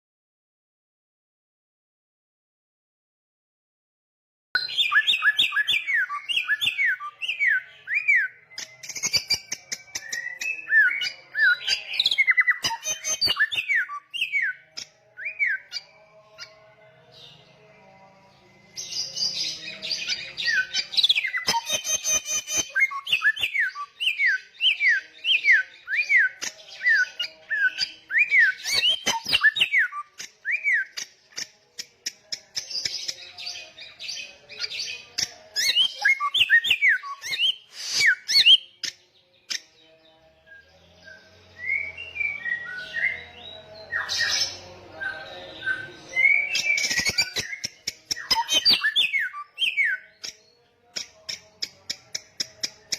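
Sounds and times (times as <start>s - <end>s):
songbird whistling and chattering: 4.6s - 16.6s, 19.0s - 33.4s, 34.6s - 39.7s, 41.6s - 52.9s.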